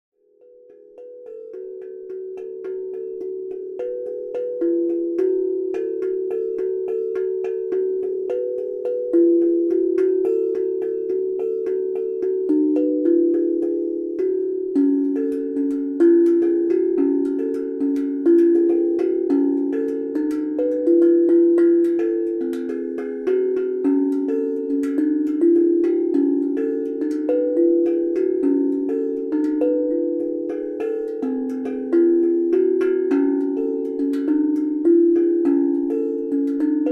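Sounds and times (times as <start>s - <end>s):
steel tongue drum ringing notes: 0.2s - 36.9s.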